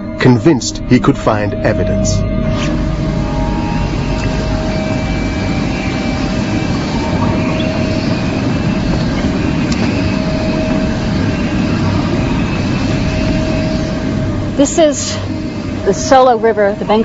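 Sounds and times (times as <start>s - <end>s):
constant whine: 0.0s - 17.0s
vehicle rumbling: 0.0s - 17.0s.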